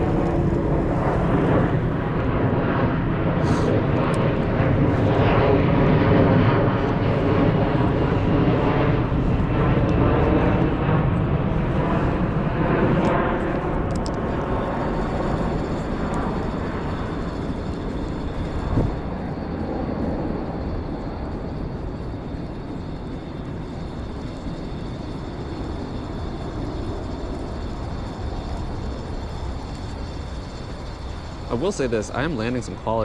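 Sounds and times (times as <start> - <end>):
airplane passing overhead: 0.0 - 33.0.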